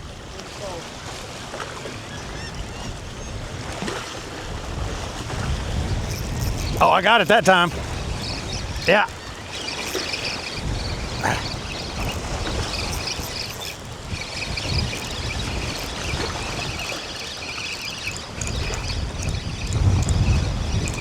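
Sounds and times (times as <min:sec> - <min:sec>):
water lapping at shore: 0:00.0 - 0:21.0
wind buffeting microphone: 0:02.2 - 0:17.2, 0:18.0 - 0:21.0.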